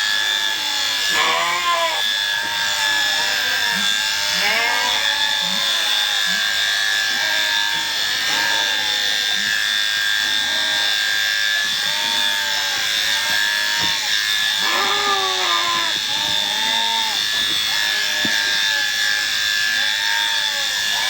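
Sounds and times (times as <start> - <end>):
electric shearing handpiece whine: 0.0 - 21.0.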